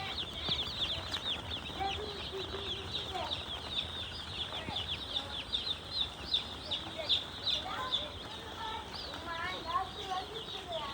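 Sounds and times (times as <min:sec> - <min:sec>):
chicks peeping: 0:00.0 - 0:10.9.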